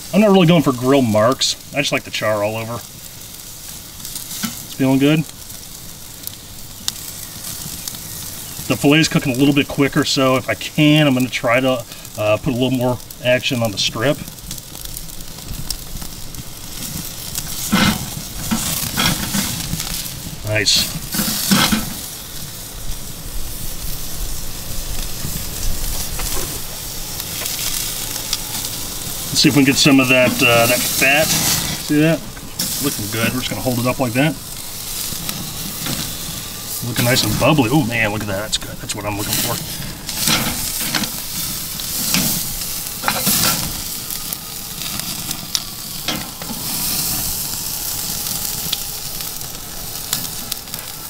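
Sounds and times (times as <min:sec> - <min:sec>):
sharp pops and crackles: 0:00.0 - 0:51.0
steak sizzling on grill: 0:00.0 - 0:51.0.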